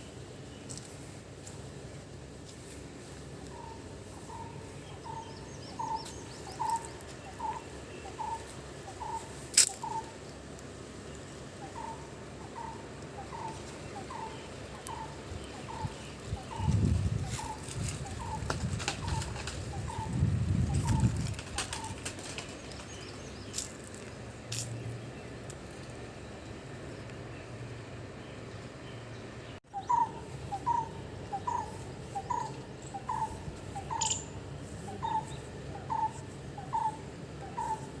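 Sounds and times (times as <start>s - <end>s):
low background hum: 0.0s - 38.0s.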